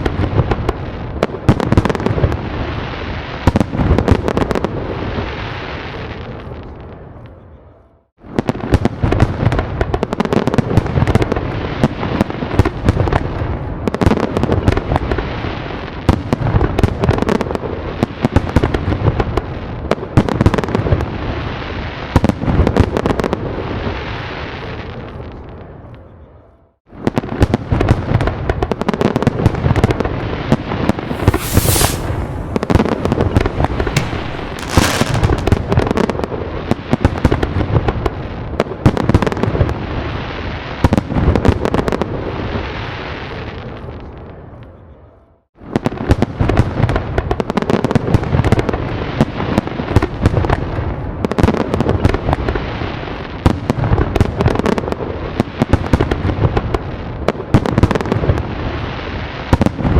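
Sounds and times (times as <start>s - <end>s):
fireworks bangs and crackles: 0.0s - 7.3s, 8.2s - 26.0s, 26.9s - 44.6s, 45.6s - 59.9s.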